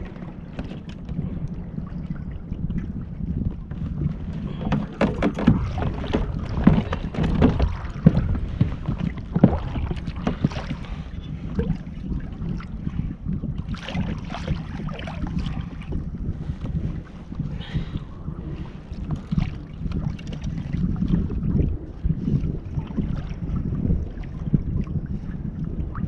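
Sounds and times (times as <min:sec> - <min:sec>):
water moving against kayak: 0:00.0 - 0:26.0
wind rumbling on microphone: 0:00.0 - 0:26.0.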